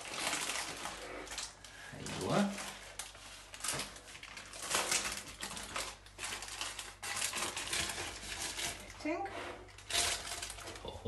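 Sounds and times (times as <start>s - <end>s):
parchment paper rustling: 0.0s - 11.0s.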